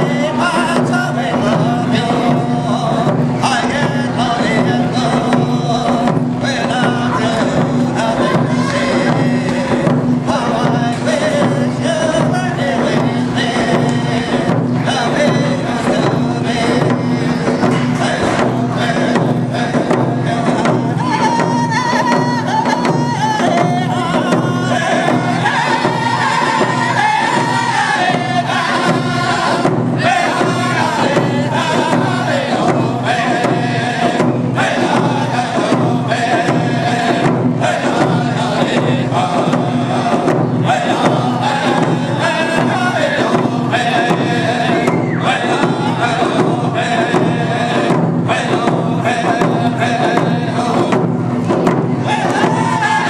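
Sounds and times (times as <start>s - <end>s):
hand drums beating: 0.0s - 53.0s
men singing in unison: 0.0s - 53.0s.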